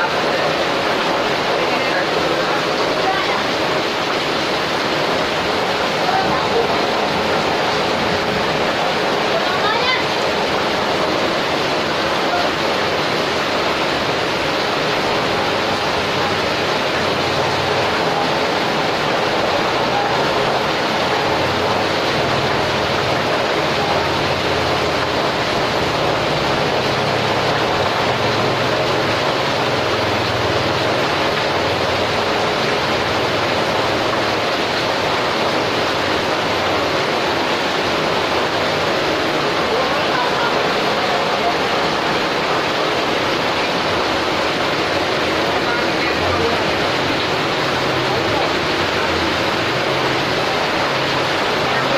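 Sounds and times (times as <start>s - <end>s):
steady rushing noise: 0.0s - 51.9s.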